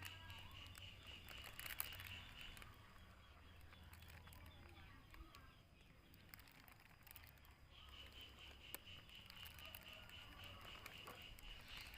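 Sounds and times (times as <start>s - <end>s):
small clicks: 0.0s - 11.9s.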